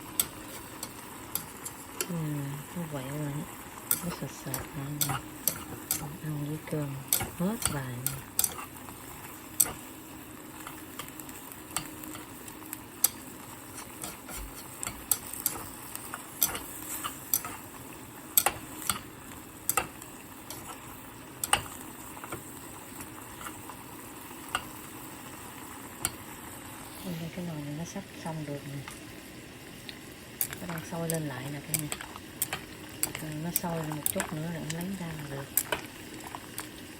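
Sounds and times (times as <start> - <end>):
glaze sizzling in a pot: 0.0 - 36.9.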